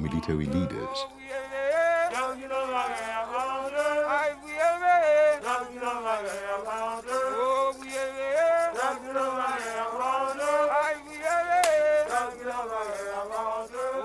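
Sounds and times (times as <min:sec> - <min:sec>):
men singing a chant-like melody: 0:00.0 - 0:14.0.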